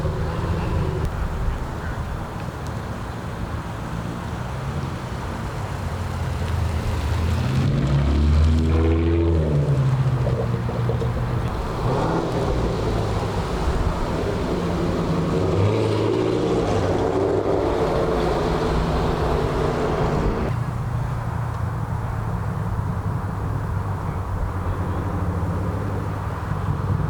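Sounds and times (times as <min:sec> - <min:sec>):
cars revving and driving past: 0:00.0 - 0:27.0.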